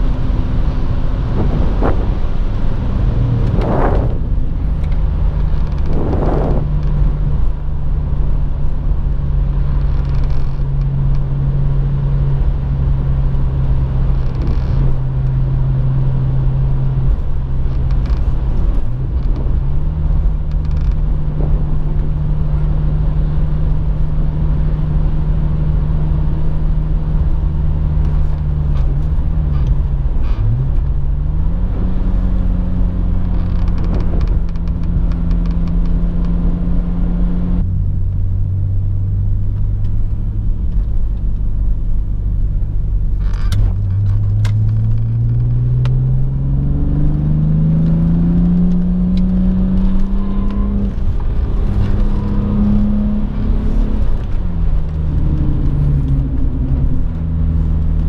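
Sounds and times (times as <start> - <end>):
car engine at cruising revs: 0.0 - 58.0.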